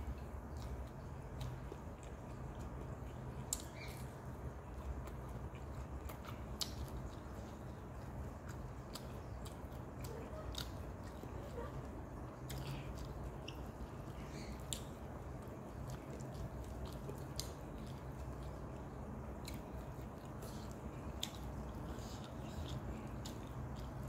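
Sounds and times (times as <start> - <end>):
person chewing: 0.0 - 24.0
steady low hum: 0.0 - 24.0.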